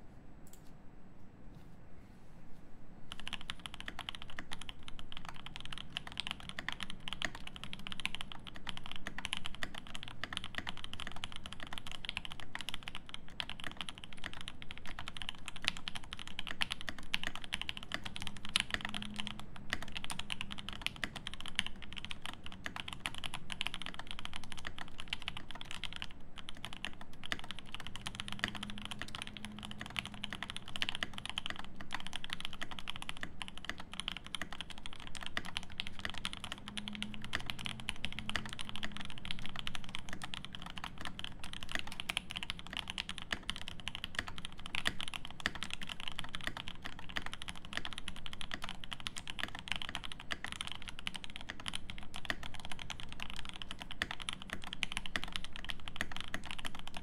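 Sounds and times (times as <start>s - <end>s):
mechanical keyboard typing: 3.1s - 57.0s.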